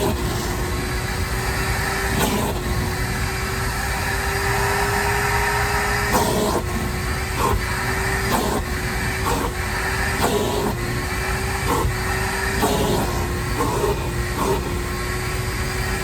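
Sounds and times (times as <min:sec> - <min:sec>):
shop vac motor whine: 0:00.0 - 0:16.0
vacuum nozzle strokes: 0:00.0 - 0:16.0.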